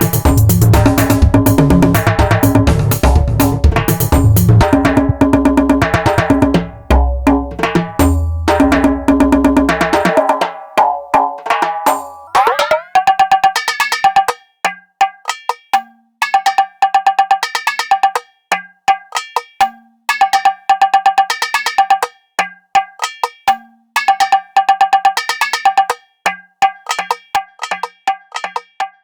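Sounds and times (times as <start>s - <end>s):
metallic cowbell-like drum rolls: 0.0s - 29.0s.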